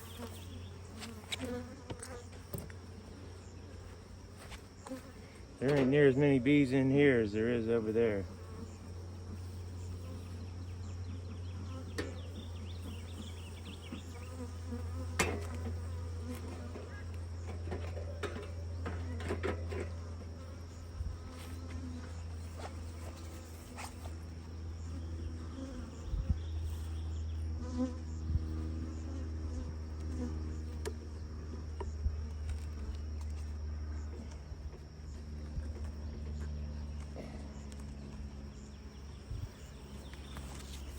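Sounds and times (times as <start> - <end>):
bees buzzing: 0.0 - 35.2.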